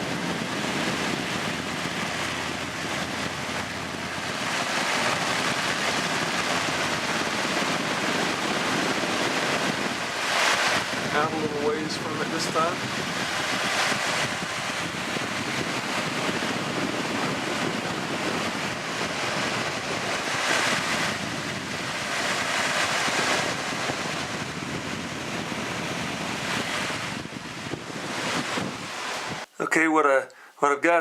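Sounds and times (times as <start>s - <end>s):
wind on microphone: 0.0s - 29.5s.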